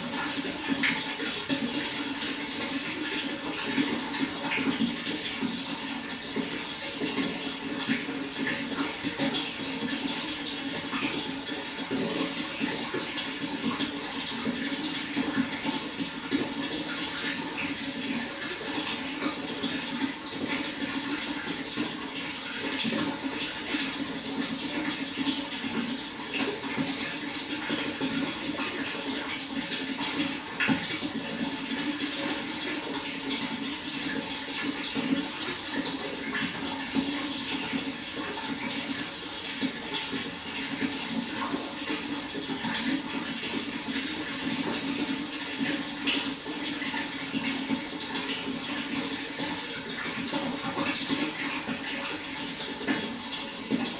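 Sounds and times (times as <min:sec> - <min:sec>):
water flowing: 0:00.0 - 0:53.9.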